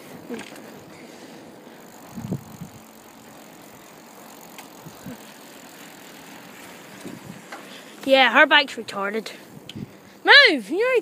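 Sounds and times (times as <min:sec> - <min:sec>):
bicycle rushing on tarmac: 0:00.0 - 0:11.0.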